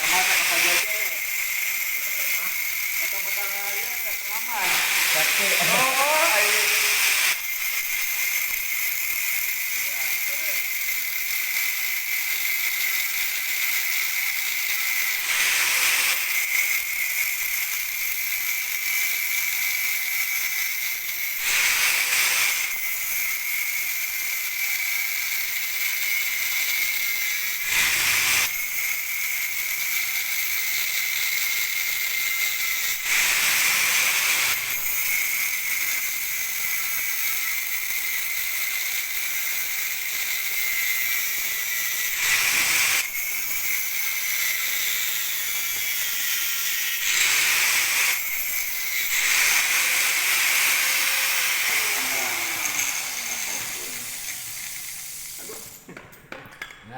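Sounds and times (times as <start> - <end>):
angle grinder grinding metal: 0.0 - 56.0.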